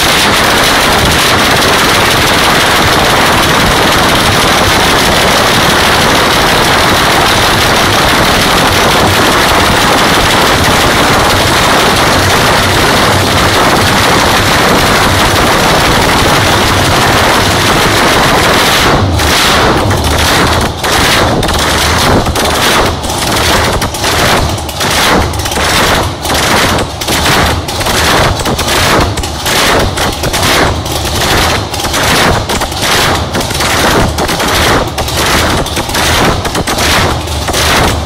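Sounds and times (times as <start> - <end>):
supercharged car engine running loudly: 0.0 - 38.0.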